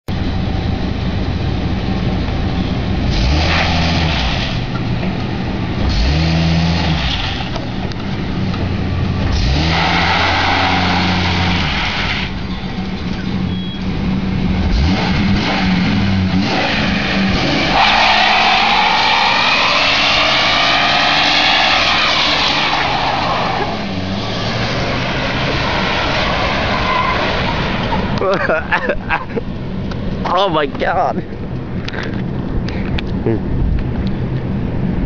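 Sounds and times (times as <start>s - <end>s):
truck engine revving: 0.2s - 30.6s.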